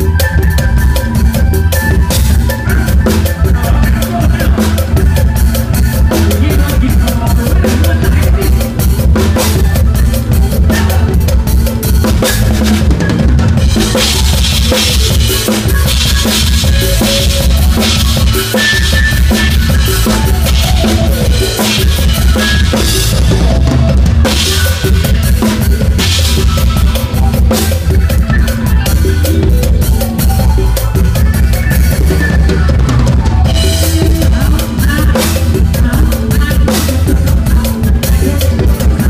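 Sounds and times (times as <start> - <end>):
band bass and instruments: 0.0 - 39.0
drum kit playing: 0.0 - 39.0.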